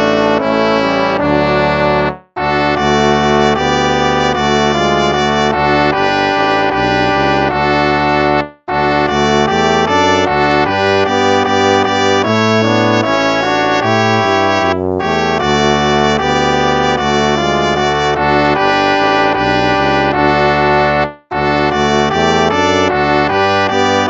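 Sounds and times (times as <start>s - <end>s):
brass band playing a hymn: 0.0s - 24.0s.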